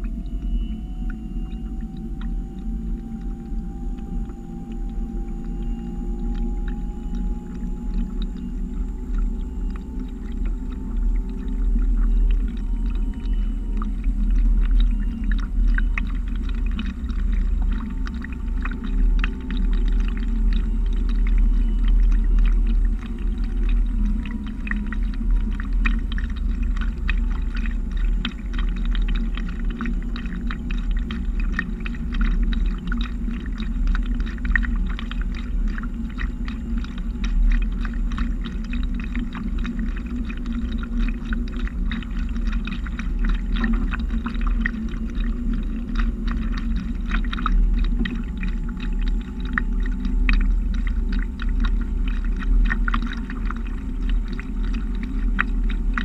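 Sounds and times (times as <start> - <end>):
steady low rumble: 0.0 - 56.0
water lapping against hull: 0.0 - 56.0.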